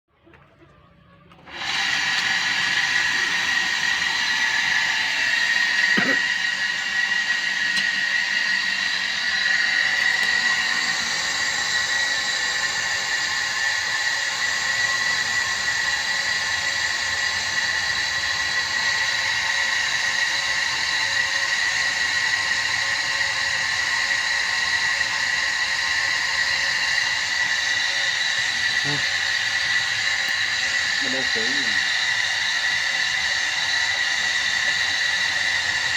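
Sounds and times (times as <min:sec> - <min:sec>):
electric motor whining: 0:01.2 - 0:35.9.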